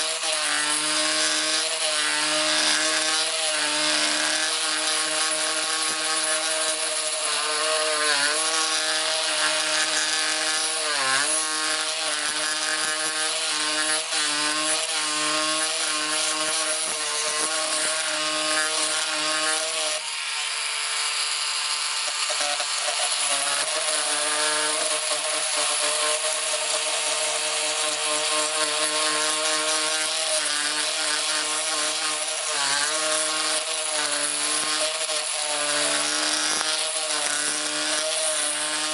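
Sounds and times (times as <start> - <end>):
power saw whine and rasp: 0.0 - 38.9.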